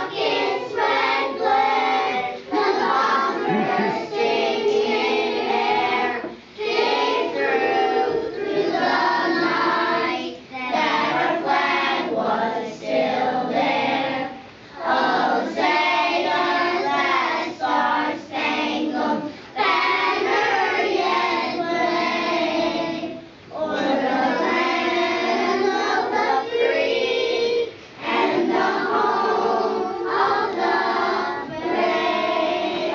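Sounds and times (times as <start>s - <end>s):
children singing in unison: 0.0s - 32.9s.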